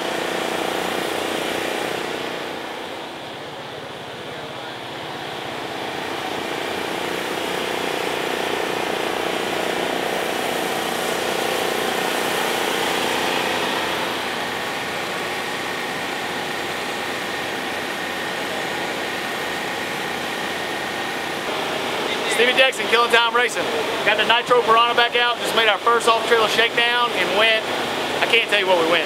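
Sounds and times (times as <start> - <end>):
vehicle engines idling: 0.0 - 29.0.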